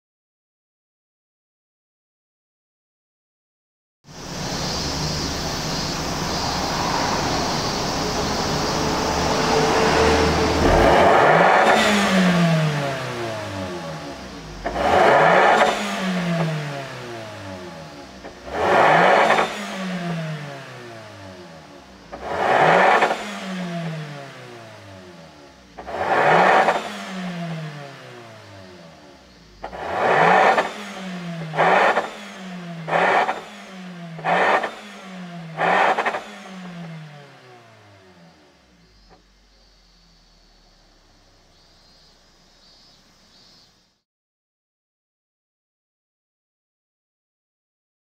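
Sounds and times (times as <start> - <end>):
car engine revving: 4.1 - 43.6.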